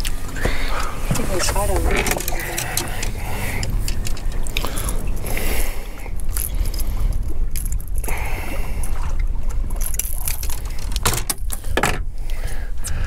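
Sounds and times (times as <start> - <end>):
boat engine low rumble: 0.0 - 13.0.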